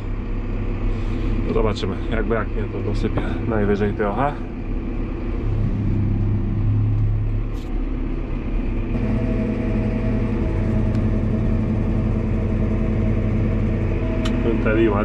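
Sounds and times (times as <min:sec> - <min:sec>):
higher steady machine tones: 0:00.0 - 0:15.0
tractor engine running: 0:00.0 - 0:15.0.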